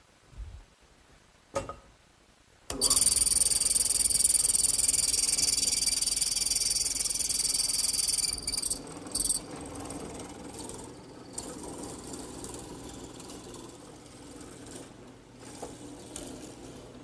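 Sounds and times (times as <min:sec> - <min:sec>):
drill press chisel grinding wood: 0:02.7 - 0:17.0.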